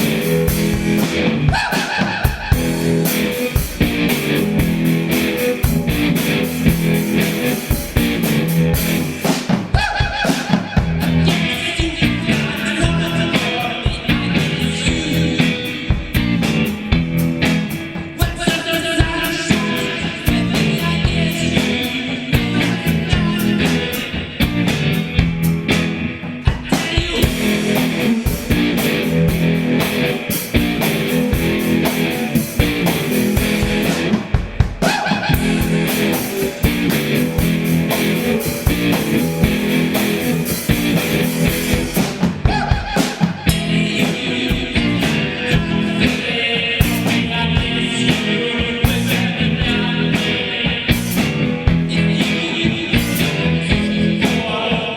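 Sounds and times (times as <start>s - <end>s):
distorted electric guitar: 0.0s - 54.9s
drum kit beat: 0.0s - 54.9s.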